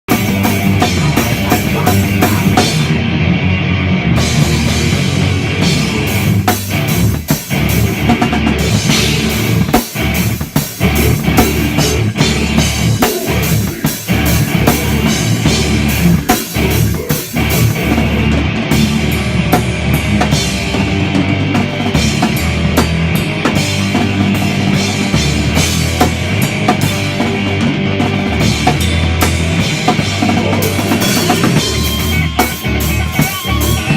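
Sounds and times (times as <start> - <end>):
drum kit beat: 0.0 - 3.2, 4.1 - 33.9
low bass notes: 0.0 - 33.9
rock band playing: 0.0 - 33.9.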